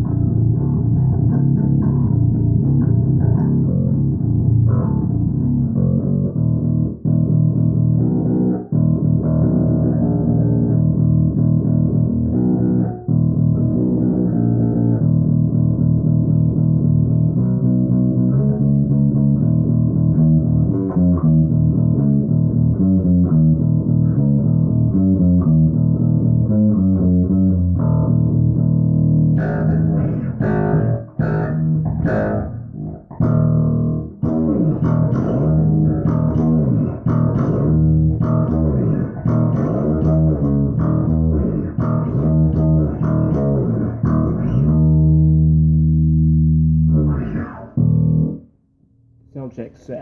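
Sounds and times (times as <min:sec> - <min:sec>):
electric guitar picked notes: 0:00.0 - 0:48.4.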